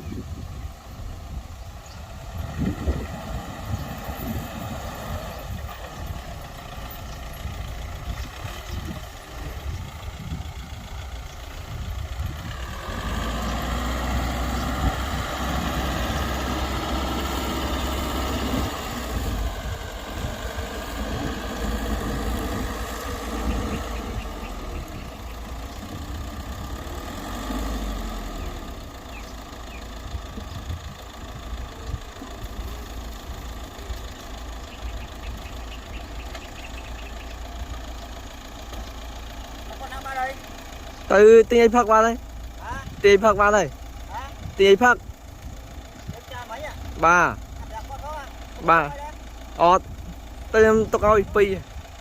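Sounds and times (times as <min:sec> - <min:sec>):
bulldozer diesel engine working: 0:00.0 - 0:52.0.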